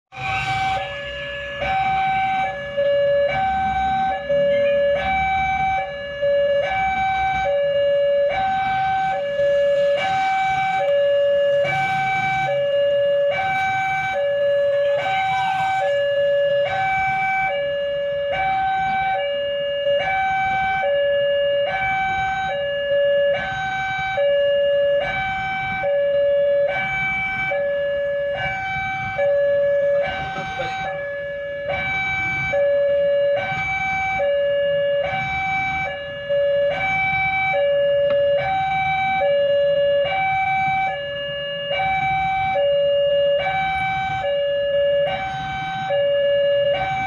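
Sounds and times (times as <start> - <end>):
idling vehicles rumble: 0.1 - 47.0
two-tone crossing alarm: 0.1 - 47.0.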